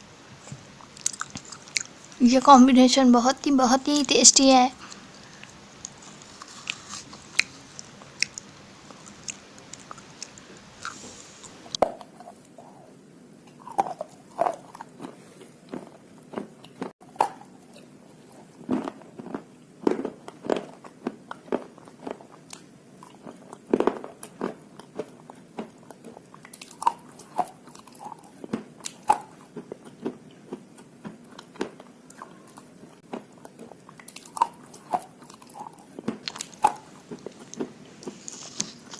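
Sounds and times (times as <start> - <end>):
crisp crunches and chewing: 0.4 - 2.2, 4.8 - 12.9, 13.5 - 38.9.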